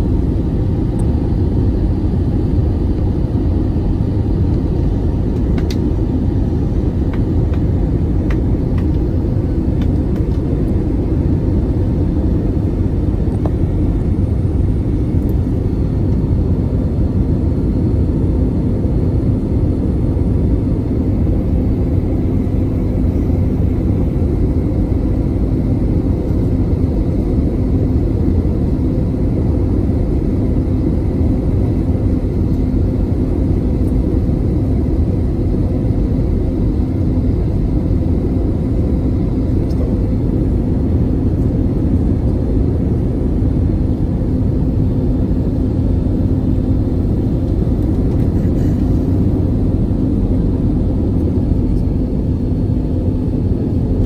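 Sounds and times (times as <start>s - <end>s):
jet engines and airflow rumble: 0.0s - 54.0s
steady hum: 0.0s - 54.0s.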